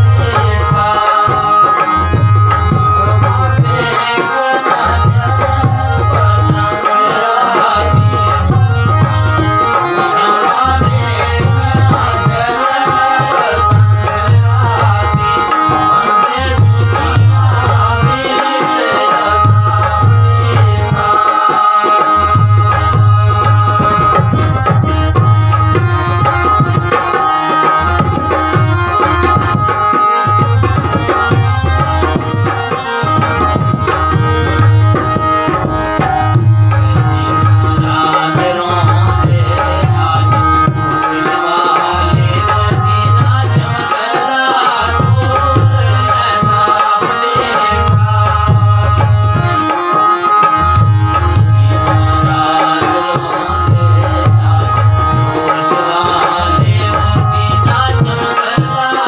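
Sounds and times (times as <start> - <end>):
man singing: 0.0 - 59.0.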